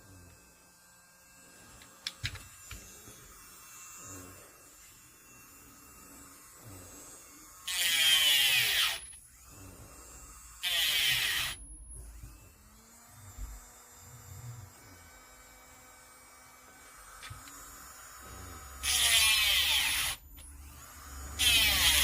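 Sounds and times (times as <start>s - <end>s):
electric nail drill whirring: 0.0s - 22.0s.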